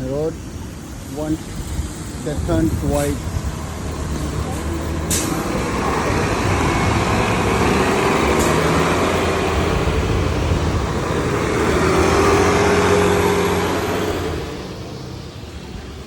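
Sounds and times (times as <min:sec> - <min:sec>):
road traffic on wet street: 0:00.0 - 0:16.0.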